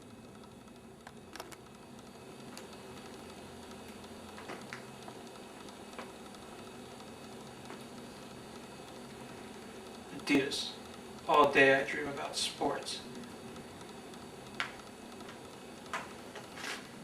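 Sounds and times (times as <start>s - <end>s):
faint clicks and taps: 0.0s - 12.0s, 13.0s - 16.9s
low steady background noise: 0.0s - 17.0s.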